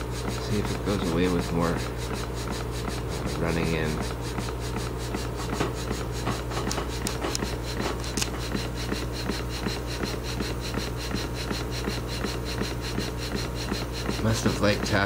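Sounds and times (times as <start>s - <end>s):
steam engine running: 0.0s - 15.0s.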